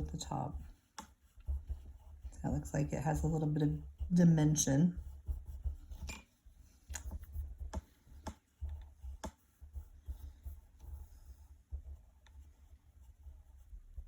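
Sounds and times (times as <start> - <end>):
drawing tool on paper: 0.0 - 14.0.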